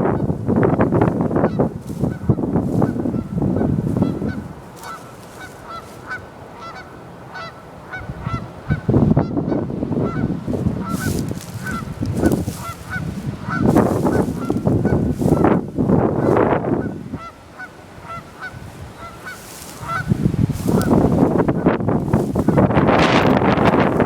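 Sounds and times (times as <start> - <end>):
geese honking: 0.0 - 24.0.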